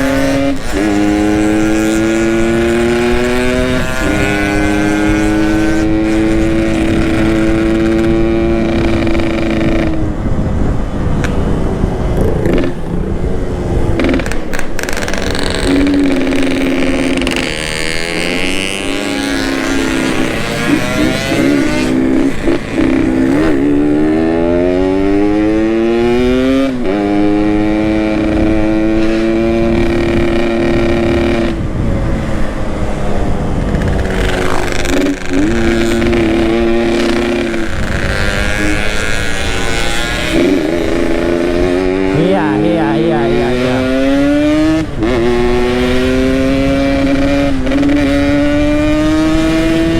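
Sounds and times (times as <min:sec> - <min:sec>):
two-stroke motorcycle engine: 0:00.0 - 0:49.9.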